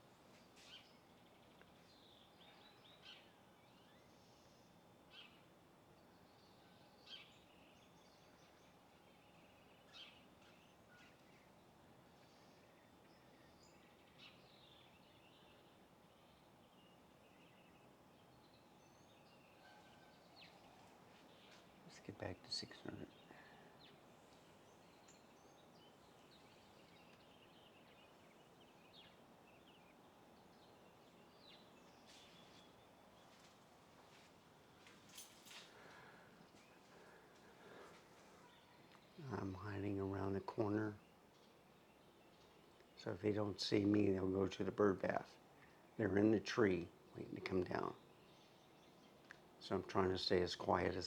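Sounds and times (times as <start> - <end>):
quiet background hiss: 0.0 - 51.0
small birds chirping: 0.0 - 51.0.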